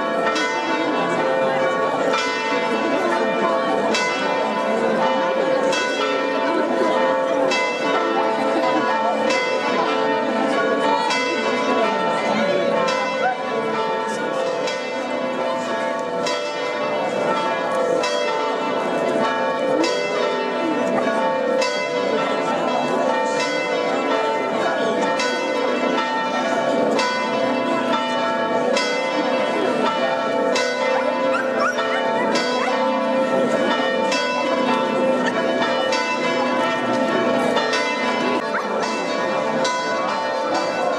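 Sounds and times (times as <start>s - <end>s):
church bells ringing: 0.0s - 40.9s
crowd chatter: 0.0s - 40.9s.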